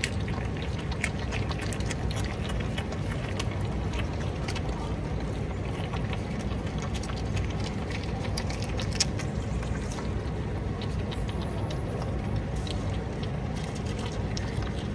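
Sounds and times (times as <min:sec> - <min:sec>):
animals crunching vegetables: 0:00.0 - 0:14.9.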